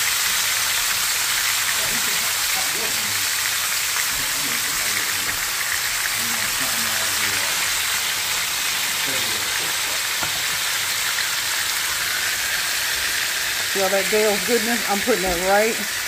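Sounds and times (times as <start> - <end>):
pork chops sizzling in oil: 0.0 - 16.0.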